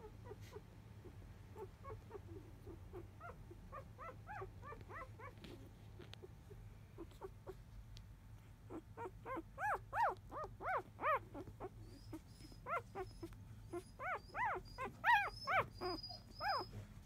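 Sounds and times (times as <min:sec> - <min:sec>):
puppies squeaking and whining: 0:00.0 - 0:07.6, 0:08.7 - 0:17.0.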